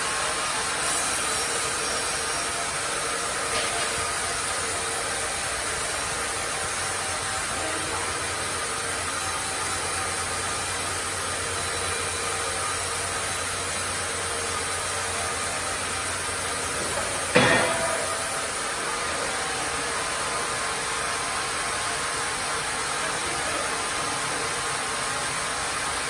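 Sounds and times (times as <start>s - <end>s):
sawmill machinery running: 0.0s - 26.0s.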